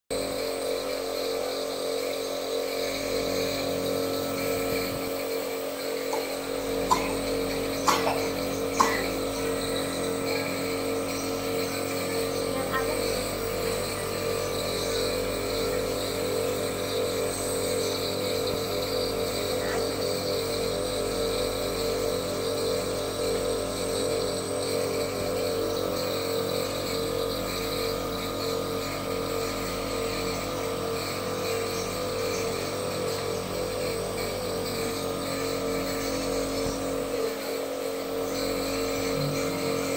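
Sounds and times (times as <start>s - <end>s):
nebulizer humming and pulsing: 0.0s - 39.9s.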